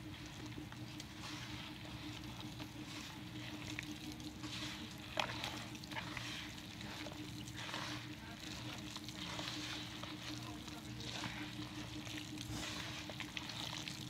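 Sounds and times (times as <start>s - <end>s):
hand squishing wet raw chicken: 0.0s - 14.0s
steady low hum: 0.0s - 14.0s.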